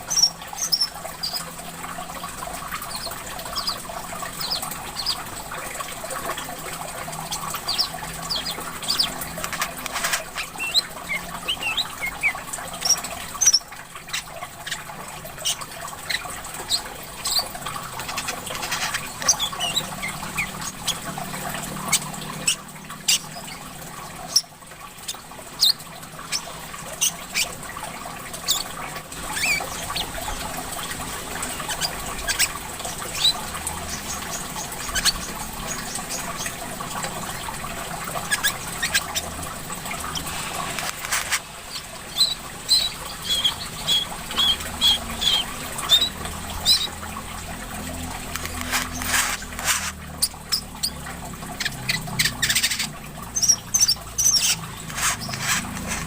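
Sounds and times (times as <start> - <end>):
bird chirping and twittering: 0.0 - 27.7, 28.4 - 36.6, 37.2 - 47.2, 50.2 - 56.0
water trickling: 0.0 - 56.0.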